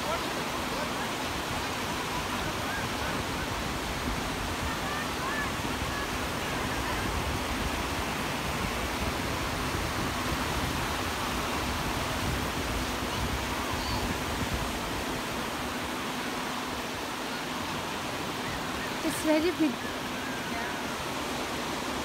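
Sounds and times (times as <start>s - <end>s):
surf breaking on beach: 0.0s - 22.0s.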